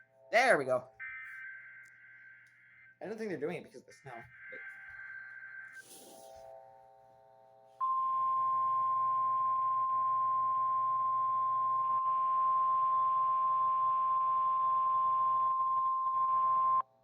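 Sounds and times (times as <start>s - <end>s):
steady warning alarm tone: 0.0s - 16.9s.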